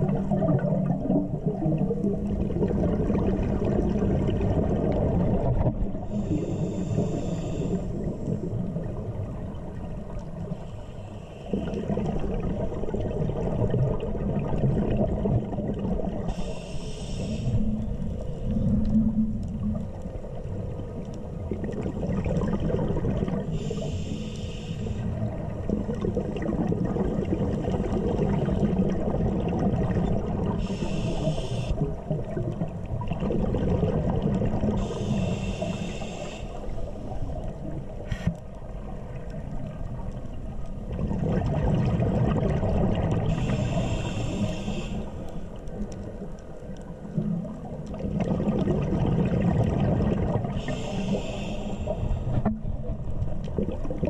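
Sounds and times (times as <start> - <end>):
exhaled bubbles bursts: 0.0 - 10.6, 11.5 - 16.5, 17.5 - 23.9, 25.0 - 35.8, 38.6 - 44.5, 47.0 - 51.2, 52.0 - 54.0
low underwater rumble: 0.0 - 54.0.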